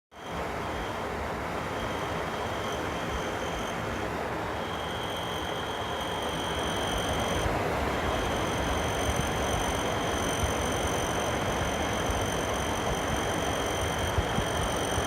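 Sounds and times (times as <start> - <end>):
fan high-pitched squeak: 0.2 - 15.0.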